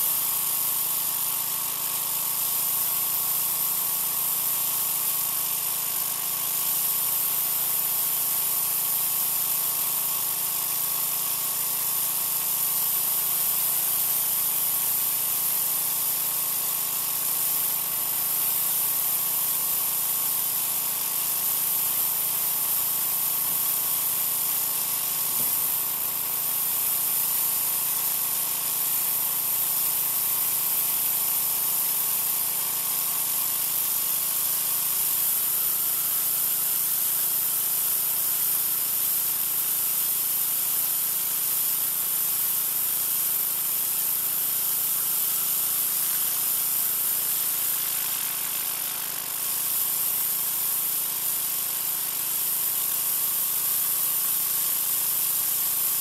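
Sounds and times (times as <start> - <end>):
pressure washer jet hissing on concrete: 0.0 - 56.0.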